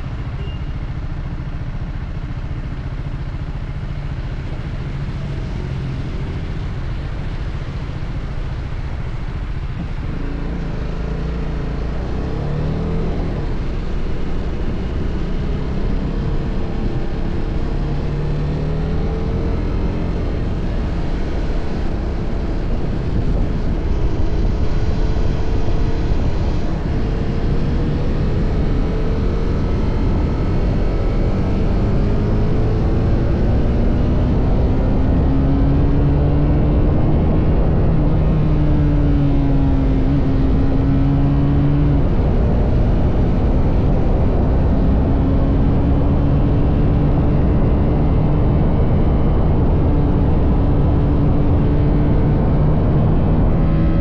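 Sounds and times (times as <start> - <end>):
motorcycle engine revving: 9.6 - 54.0.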